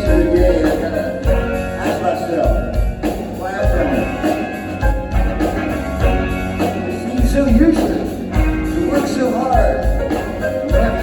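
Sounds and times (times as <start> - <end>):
person singing: 0.0 - 5.8, 6.6 - 11.0
heavy low drum beats: 0.0 - 11.0
rock band playing live: 0.0 - 11.0.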